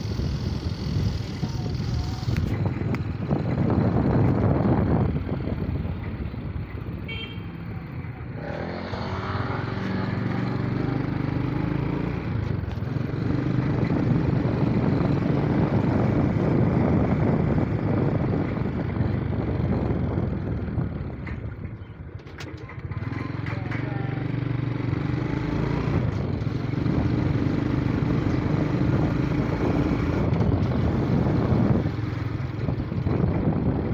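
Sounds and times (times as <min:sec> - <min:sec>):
road and wind noise: 0:00.0 - 0:33.9
vehicle engine running: 0:00.0 - 0:33.9.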